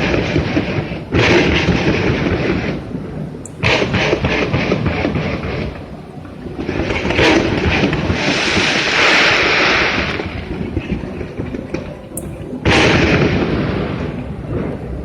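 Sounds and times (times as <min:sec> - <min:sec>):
fireworks bursts rumbling: 0:00.0 - 0:15.0
fireworks hissing crackle: 0:00.0 - 0:15.0.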